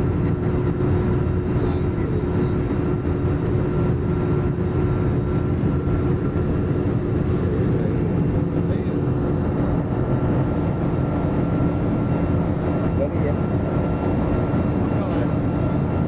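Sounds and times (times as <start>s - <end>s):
airliner cabin engine drone: 0.0s - 16.0s.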